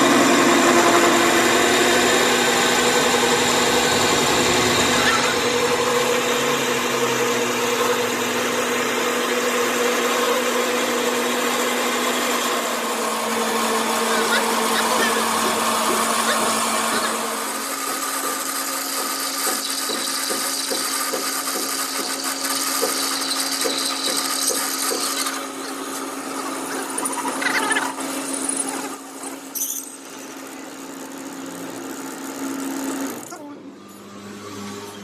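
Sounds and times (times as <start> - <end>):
power tool humming and hissing: 0.0 - 35.0.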